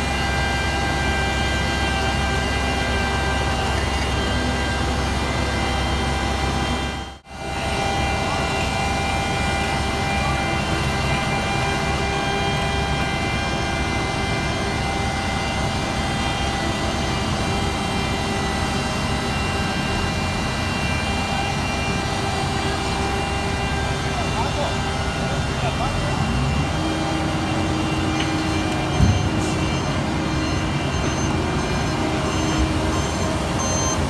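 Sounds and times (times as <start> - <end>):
diesel engine drone: 0.0 - 34.0
steady machine whine: 0.0 - 34.0.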